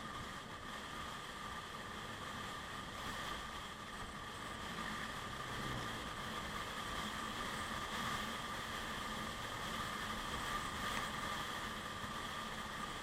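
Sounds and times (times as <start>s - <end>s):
scooter engine drone: 0.0s - 13.0s.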